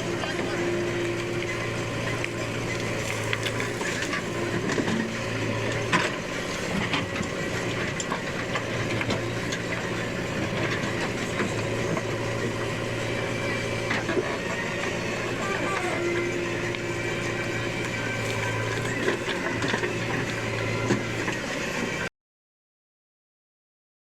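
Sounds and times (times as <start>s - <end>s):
diesel engine running: 0.0s - 22.1s.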